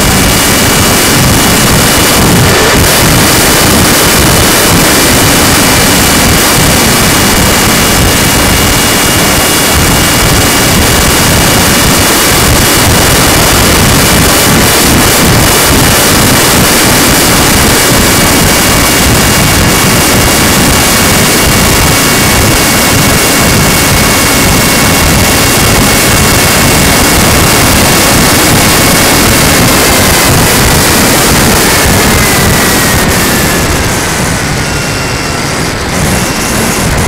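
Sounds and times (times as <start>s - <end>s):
loud rushing noise: 0.0s - 37.0s
model plane motor high whine: 0.0s - 37.0s.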